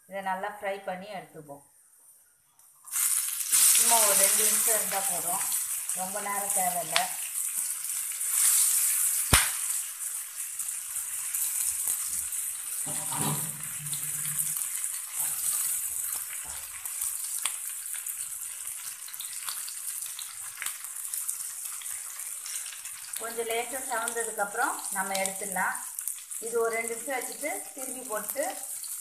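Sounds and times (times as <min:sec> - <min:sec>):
chicken sizzling in oil: 0:02.8 - 0:29.0
oil popping and crackling: 0:02.8 - 0:29.0.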